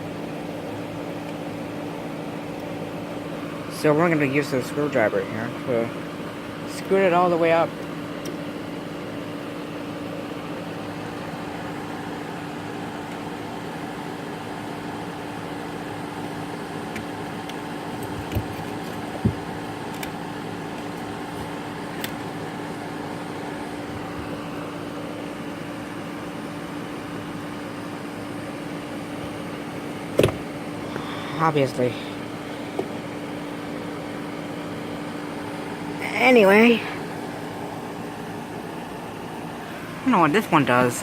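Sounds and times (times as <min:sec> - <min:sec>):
fan-like mechanical hum: 0:00.0 - 0:41.0.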